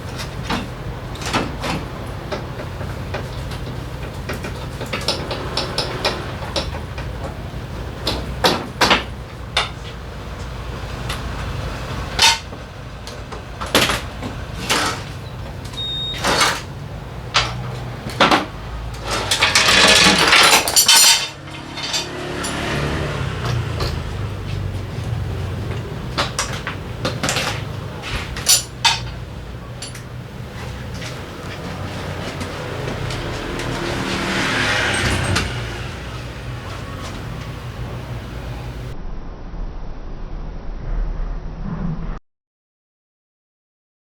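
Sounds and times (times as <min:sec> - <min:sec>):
dense metal rattle: 0:00.0 - 0:38.9
metal tools clinking: 0:00.0 - 0:38.9.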